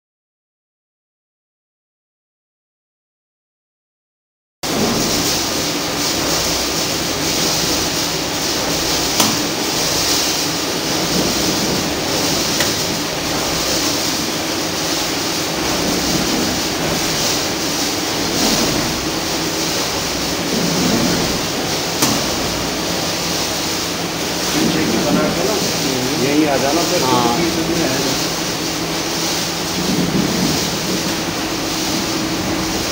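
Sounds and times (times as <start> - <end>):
packing machine running: 4.6 - 32.9.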